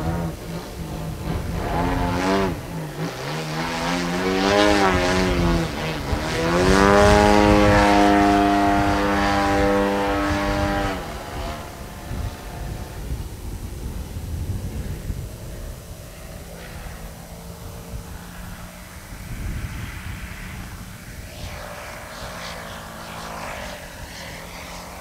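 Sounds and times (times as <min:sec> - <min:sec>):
model plane engine flying overhead: 0:00.0 - 0:25.0.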